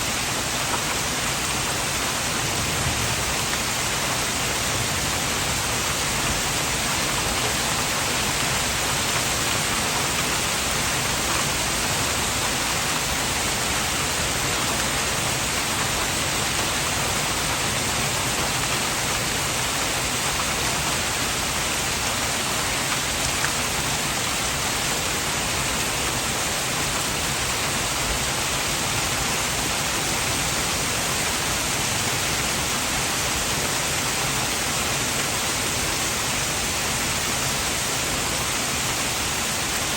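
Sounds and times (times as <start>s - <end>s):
heavy rain and hail: 0.0s - 39.9s.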